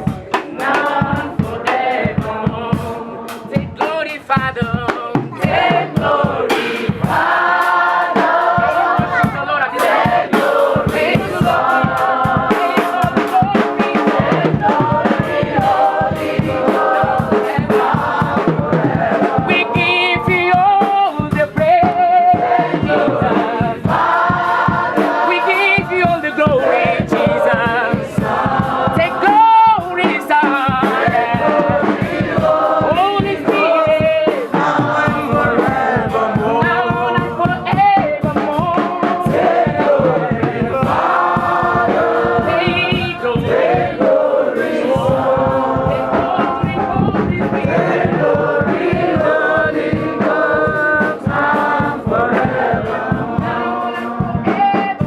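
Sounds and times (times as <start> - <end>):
gospel choir singing: 0.0 - 55.0
steady percussion beat: 0.0 - 55.0.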